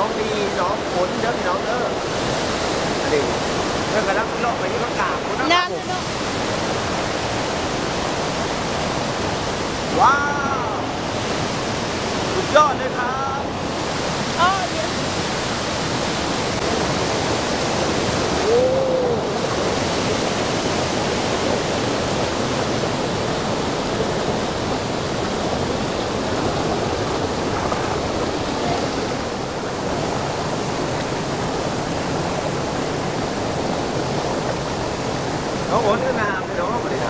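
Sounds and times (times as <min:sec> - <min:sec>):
waterfall pouring: 0:00.0 - 0:37.0.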